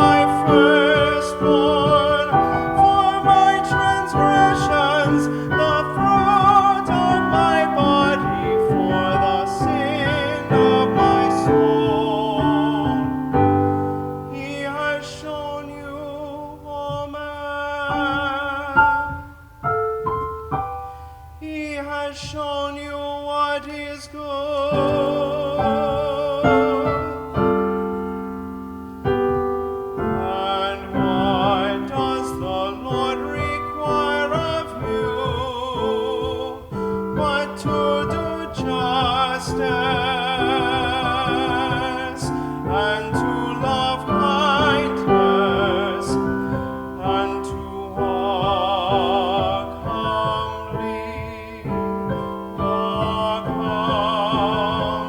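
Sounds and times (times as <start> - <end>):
person singing with vibrato: 0.0 - 55.0
piano: 0.0 - 55.0.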